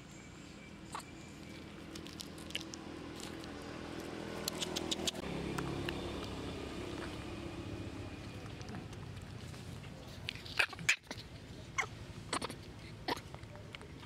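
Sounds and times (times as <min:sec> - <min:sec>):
low steady rumble: 0:00.8 - 0:14.0
monkey chewing and lip-smacking: 0:01.4 - 0:14.0.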